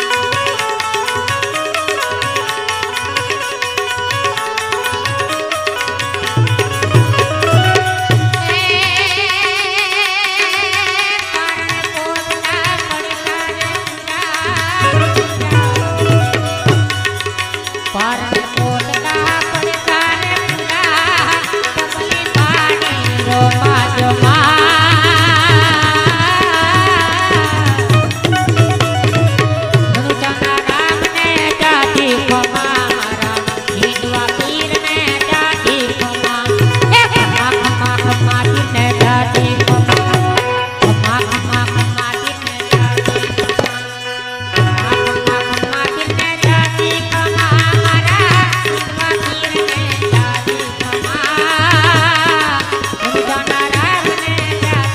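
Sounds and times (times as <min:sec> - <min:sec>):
tabla rhythm: 0:00.0 - 0:54.9.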